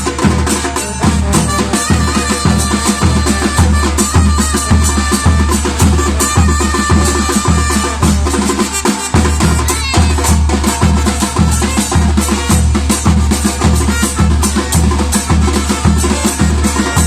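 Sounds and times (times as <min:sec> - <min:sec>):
fast drums: 0:00.0 - 0:17.0.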